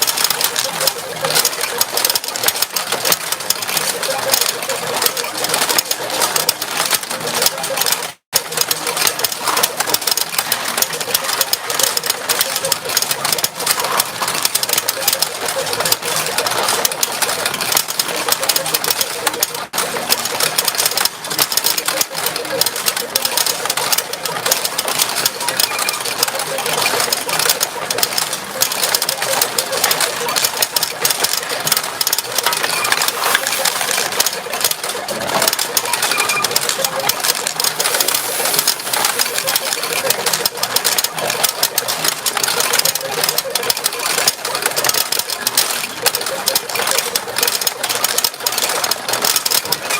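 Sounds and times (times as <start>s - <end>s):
steel balls clattering in machines: 0.0s - 49.9s.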